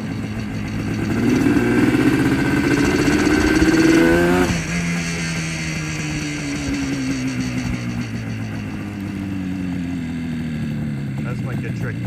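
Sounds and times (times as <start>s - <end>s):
two-stroke engine accelerating: 0.0s - 12.0s.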